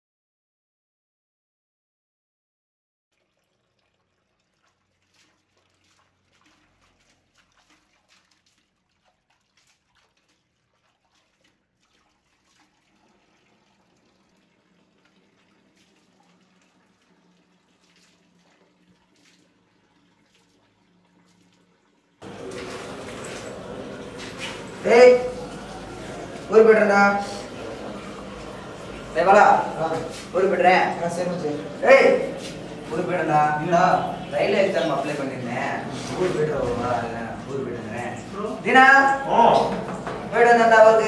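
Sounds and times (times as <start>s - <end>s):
water splashing and dripping: 3.1s - 41.0s.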